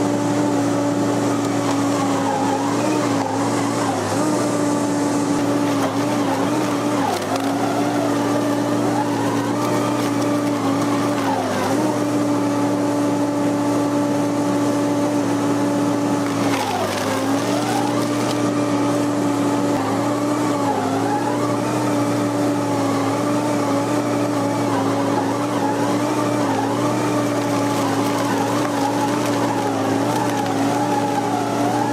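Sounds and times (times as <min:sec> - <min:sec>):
wood chipper running: 0:00.0 - 0:31.9.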